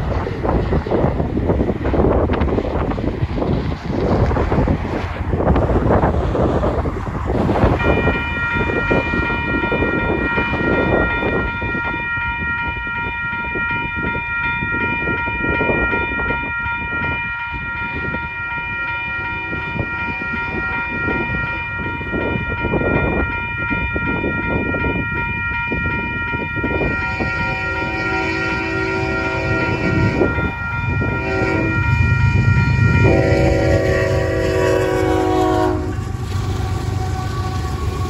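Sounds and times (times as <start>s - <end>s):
wind buffeting microphone: 0.0s - 38.0s
railroad crossing bell ringing: 7.5s - 38.0s.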